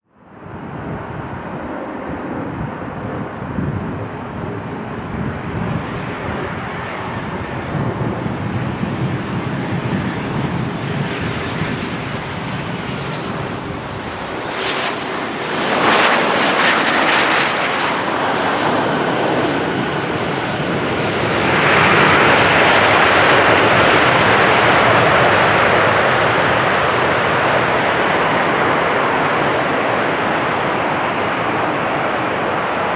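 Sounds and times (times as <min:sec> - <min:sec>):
jet engine rushing: 0:00.4 - 0:32.9.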